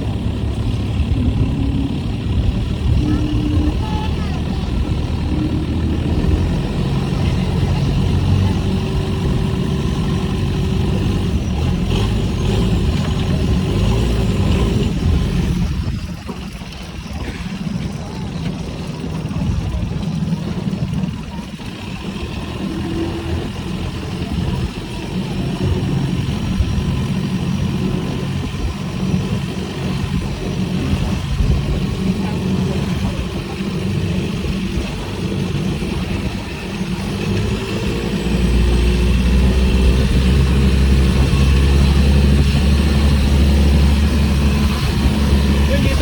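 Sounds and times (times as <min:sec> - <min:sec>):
motorboat engine running: 0:00.0 - 0:46.0.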